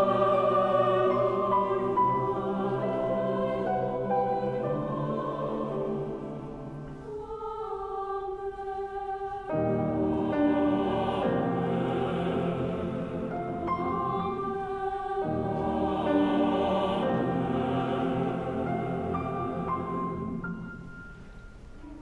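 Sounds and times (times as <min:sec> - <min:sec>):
choir singing sustained chords: 0:00.0 - 0:22.0.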